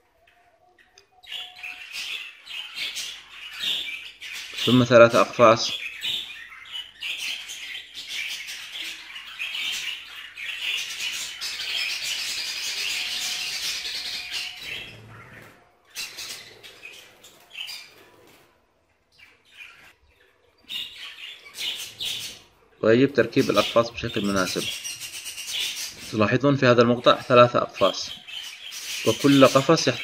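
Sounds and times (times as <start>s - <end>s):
budgerigars chattering and chirping: 0.3s - 18.4s, 19.2s - 30.0s.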